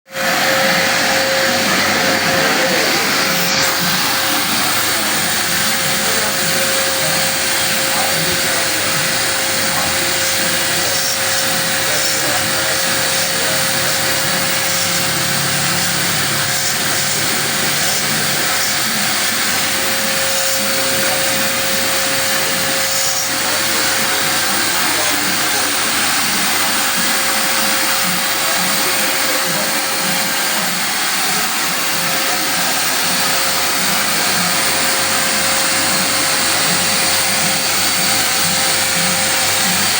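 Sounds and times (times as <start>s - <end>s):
machine hissing: 0.1s - 39.9s
machine humming: 0.1s - 39.9s.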